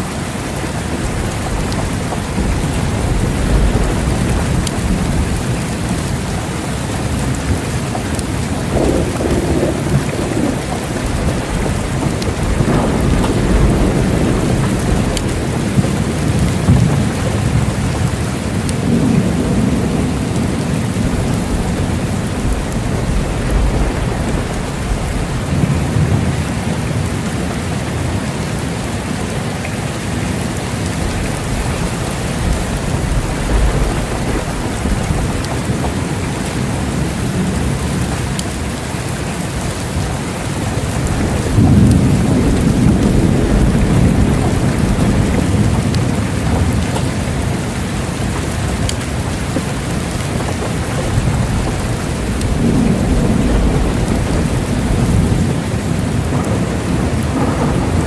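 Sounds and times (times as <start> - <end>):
heavy rain: 0.0 - 58.0
thunder rumbling: 0.0 - 58.0.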